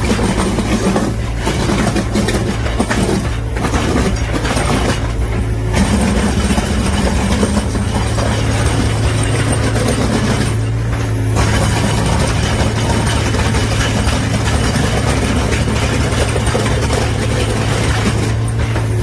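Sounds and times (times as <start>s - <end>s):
diesel engine running under load: 0.0s - 19.0s
milling drum grinding concrete: 0.0s - 19.0s.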